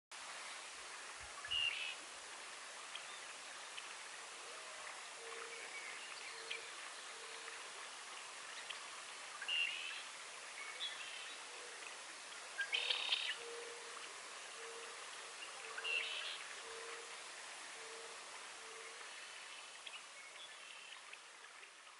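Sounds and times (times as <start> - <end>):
chorus of birds and frogs: 0.5 - 21.9.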